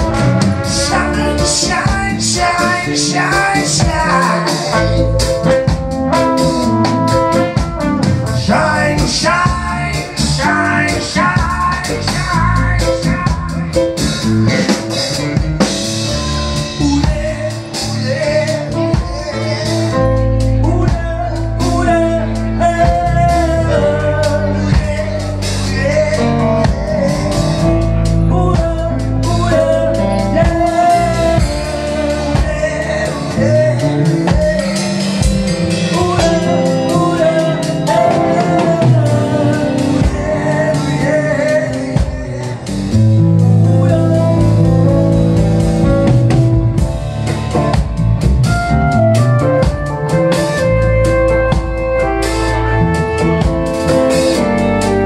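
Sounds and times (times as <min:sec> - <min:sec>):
bass guitar: 0:00.0 - 0:55.0
drums: 0:00.0 - 0:55.0
electric guitars: 0:00.0 - 0:55.0.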